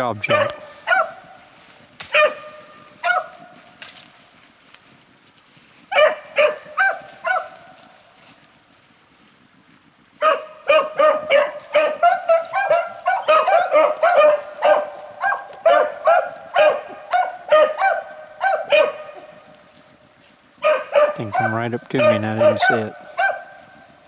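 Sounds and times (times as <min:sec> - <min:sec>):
hounds baying: 0:00.2 - 0:04.1, 0:05.8 - 0:08.1, 0:10.2 - 0:24.0.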